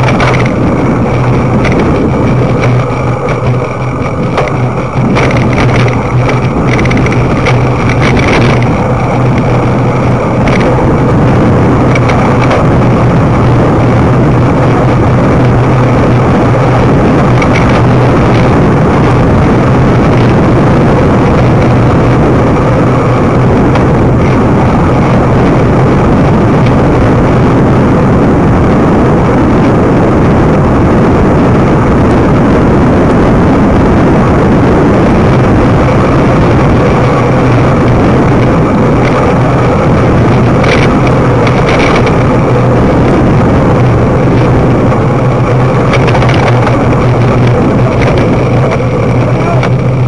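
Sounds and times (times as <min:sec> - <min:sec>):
steady low hum: 0:00.0 - 0:50.0
wind noise on microphone: 0:00.0 - 0:50.0.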